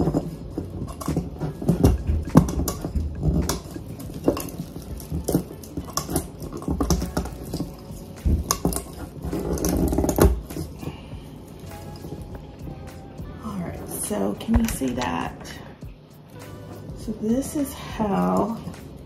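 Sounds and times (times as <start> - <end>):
stems and pot knocking countertop: 0.0 - 15.7, 16.9 - 19.0
plastic greenery rustling: 0.0 - 19.0.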